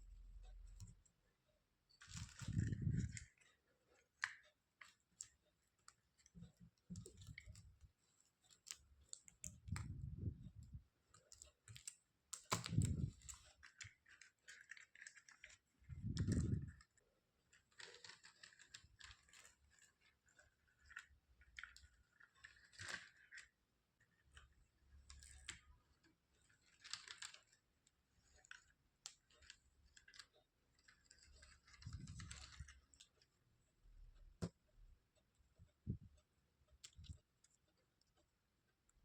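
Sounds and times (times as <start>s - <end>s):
small clicks and taps: 1.9s - 33.4s, 34.2s - 39.0s.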